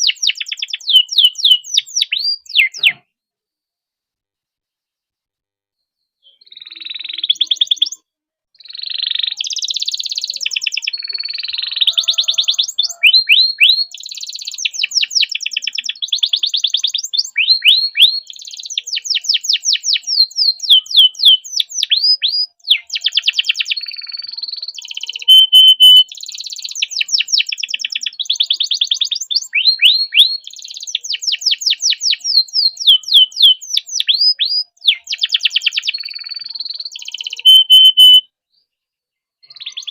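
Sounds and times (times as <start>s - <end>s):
canary singing trills: 0.0s - 3.0s, 6.2s - 8.0s, 8.6s - 38.2s, 39.4s - 39.9s.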